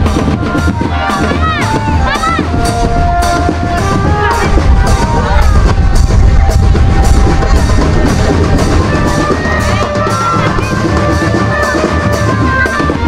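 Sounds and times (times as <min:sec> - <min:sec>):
bass drums: 0:00.0 - 0:13.0
melody of held notes: 0:00.0 - 0:13.0
snare drums: 0:00.0 - 0:13.0.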